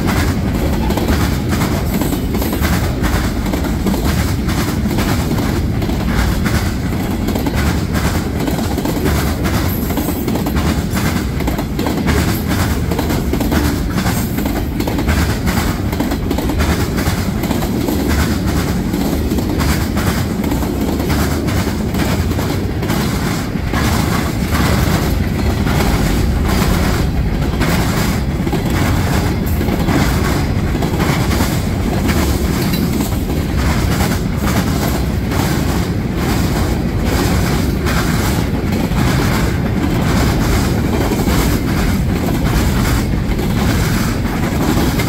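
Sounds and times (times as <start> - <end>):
train rumble: 0.0 - 45.0
train wheels clattering over crossing: 0.0 - 45.0.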